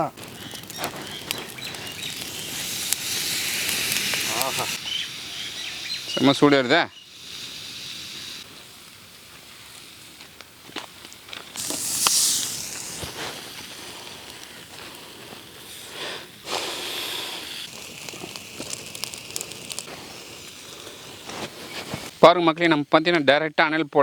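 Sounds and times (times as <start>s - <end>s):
sharp crackles: 0.0s - 8.4s, 9.6s - 22.2s
meat sizzling on hot stones: 0.0s - 23.0s.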